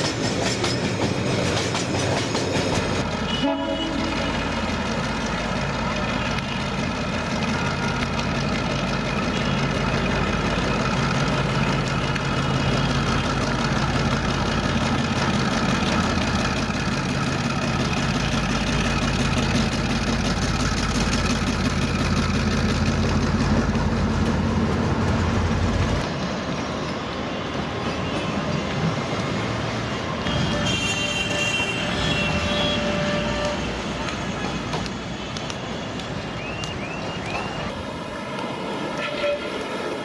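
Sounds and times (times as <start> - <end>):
diesel locomotive engine drone: 0.0 - 40.0.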